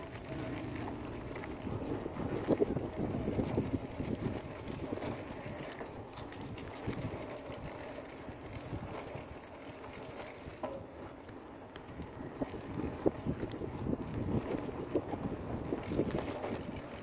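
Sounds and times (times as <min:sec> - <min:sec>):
wind on microphone: 0:00.0 - 0:11.1, 0:11.9 - 0:17.0
bicycle tyres crunching on dirt: 0:00.0 - 0:17.0
bike rattling over ruts: 0:00.0 - 0:17.0.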